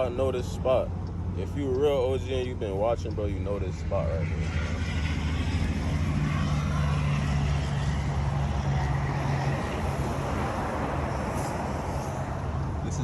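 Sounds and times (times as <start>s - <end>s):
deep strong hum: 0.0s - 13.0s
low engine rumble: 0.0s - 13.0s
road traffic noise: 0.0s - 13.0s.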